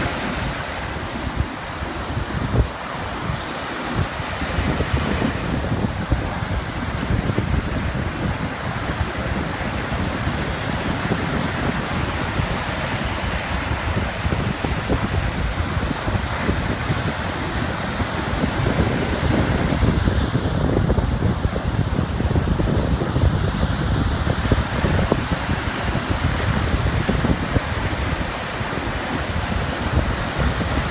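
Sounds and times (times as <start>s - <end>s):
small waves lapping on beach: 0.0s - 30.9s
wind rumbling on microphone: 0.0s - 30.9s.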